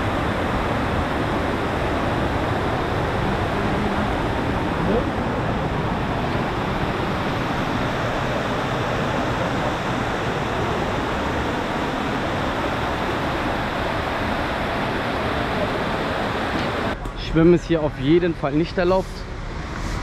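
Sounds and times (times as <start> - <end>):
waterfall roaring: 0.0 - 17.4.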